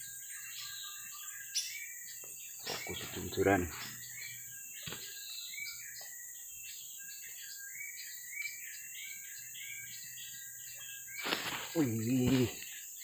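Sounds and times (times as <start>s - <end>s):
birds chirping: 0.0s - 13.0s
insects droning: 0.0s - 13.0s.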